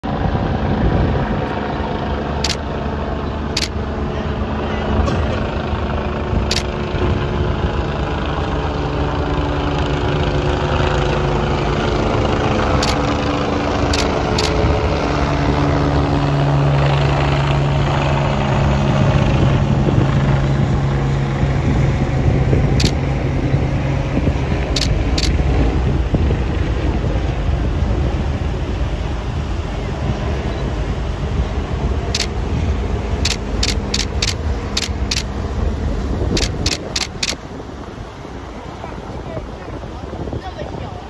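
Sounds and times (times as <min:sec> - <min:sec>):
low hum: 0:00.0 - 0:39.3.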